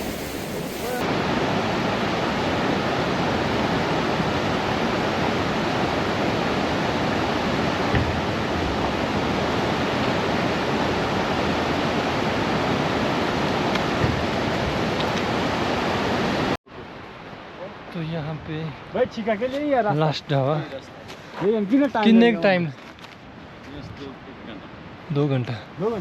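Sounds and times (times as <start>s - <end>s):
rushing mountain water: 0.0s - 21.6s.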